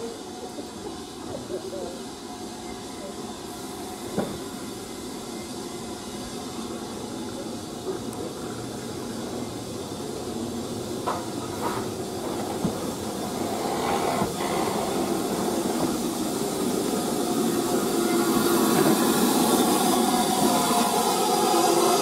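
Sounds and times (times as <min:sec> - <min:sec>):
steam train hissing and running: 0:00.0 - 0:22.0.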